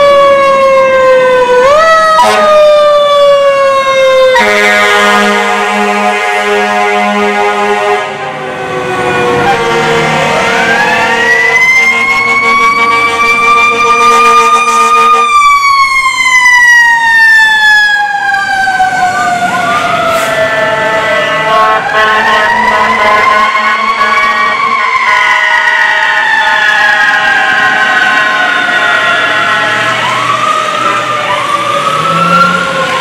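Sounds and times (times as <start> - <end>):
fire truck siren wailing: 0.0 - 33.0.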